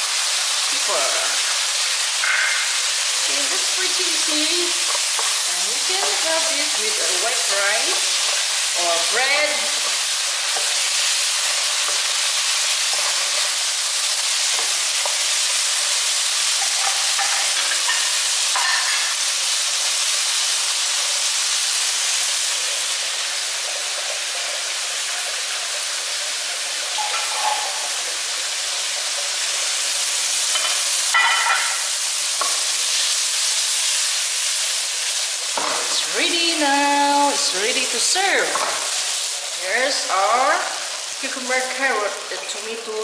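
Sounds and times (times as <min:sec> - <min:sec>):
vegetables sizzling in frying pan: 0:00.0 - 0:43.0.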